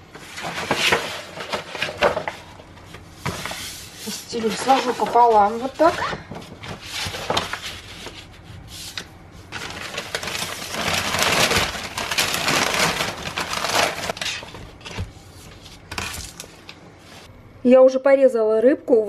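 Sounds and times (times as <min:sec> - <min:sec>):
newspaper rustling and crinkling: 0:00.1 - 0:17.3.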